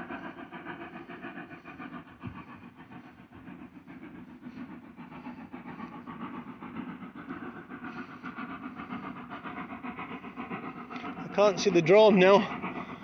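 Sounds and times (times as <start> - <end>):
steam locomotive running: 0.0 - 13.0.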